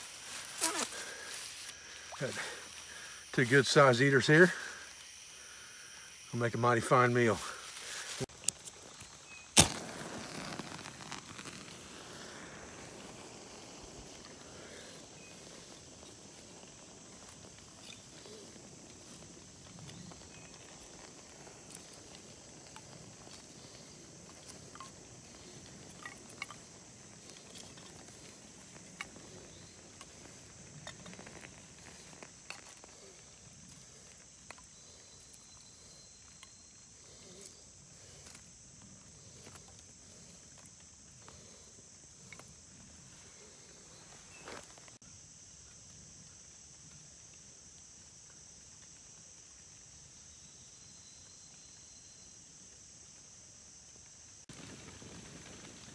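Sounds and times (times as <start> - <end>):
insect chorus buzzing: 0.0 - 55.9
small fire crackling: 0.0 - 55.9.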